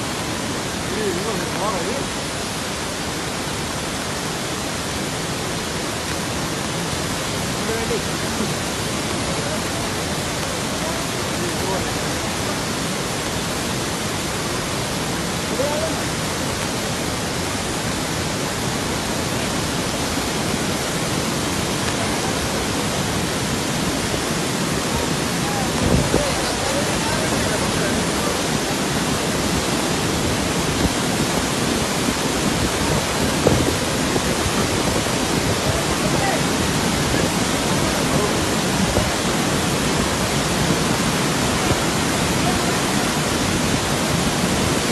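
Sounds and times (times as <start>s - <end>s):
waterfall torrent crashing: 0.0s - 44.9s.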